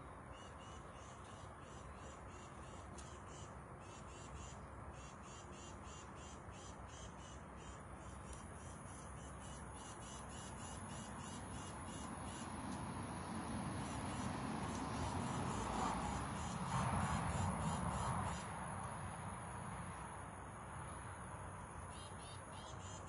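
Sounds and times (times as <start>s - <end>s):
insects chirping: 0.3s - 23.0s.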